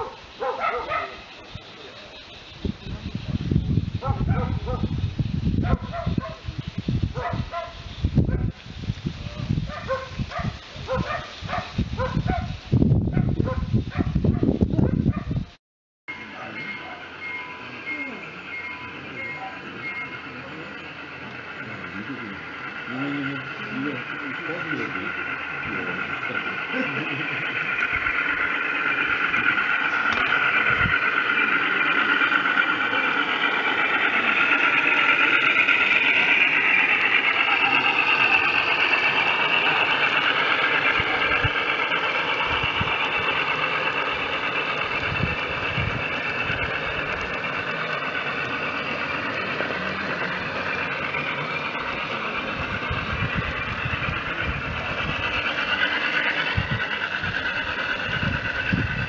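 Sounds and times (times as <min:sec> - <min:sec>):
model train running on track: 0:00.0 - 0:15.5, 0:16.1 - 0:59.0.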